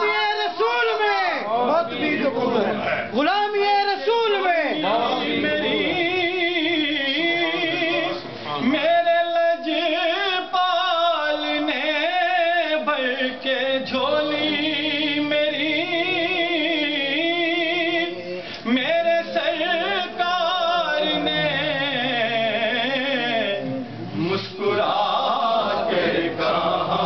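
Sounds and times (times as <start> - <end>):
man singing unaccompanied: 0.0 - 27.0.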